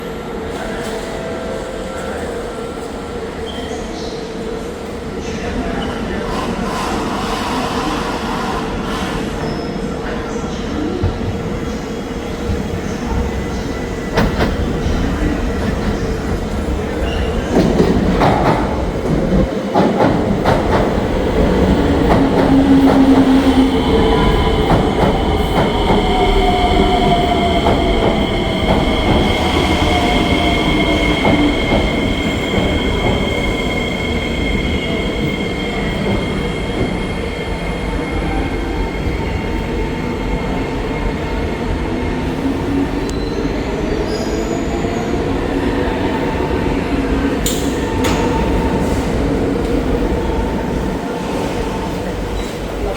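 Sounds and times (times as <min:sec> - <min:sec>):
train wheels rumbling on rail: 0:04.4 - 0:52.9.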